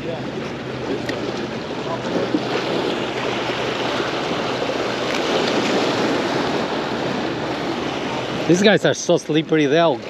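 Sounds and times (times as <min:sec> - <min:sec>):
small waves breaking on rocks: 0:00.8 - 0:10.0.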